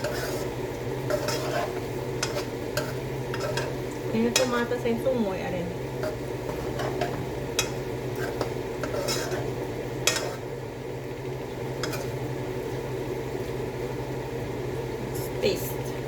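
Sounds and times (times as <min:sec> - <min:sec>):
utensil stirring food in pan: 0:00.0 - 0:14.3
steady low hum: 0:00.0 - 0:16.0.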